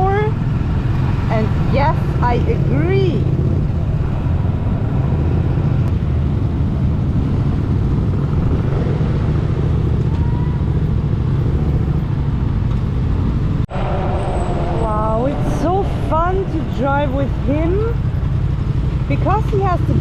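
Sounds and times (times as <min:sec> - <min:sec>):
motorcycle engine rumbling: 0:00.0 - 0:20.0
road noise: 0:00.0 - 0:20.0.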